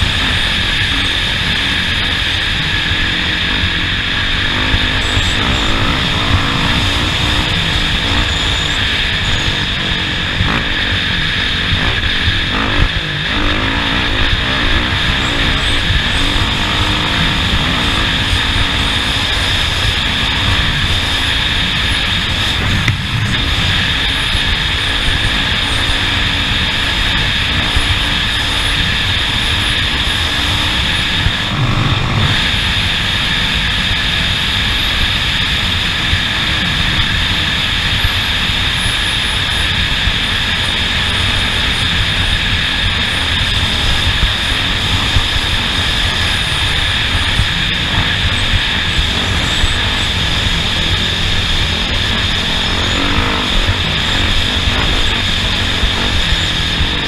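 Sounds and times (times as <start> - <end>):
motor running loudly: 0.0 - 57.0
rushing wind noise: 0.0 - 57.0.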